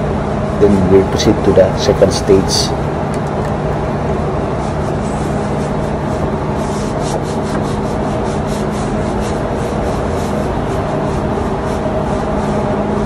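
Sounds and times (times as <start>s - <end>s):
engine room machinery drone: 0.0s - 13.0s.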